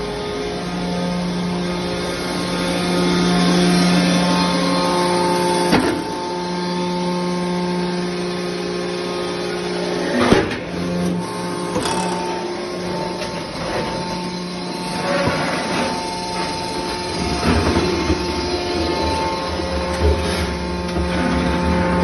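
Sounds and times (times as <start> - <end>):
hydraulic power unit humming: 0.0 - 22.0.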